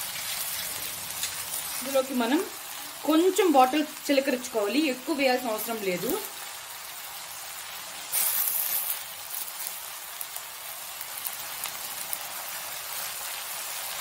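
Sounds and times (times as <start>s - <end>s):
leaves sizzling in oiled pan: 0.0s - 14.0s.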